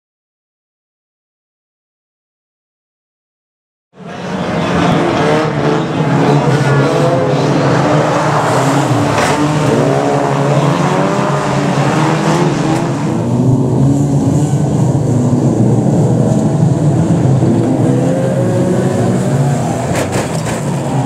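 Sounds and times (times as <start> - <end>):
race car engines revving: 4.0 - 21.0.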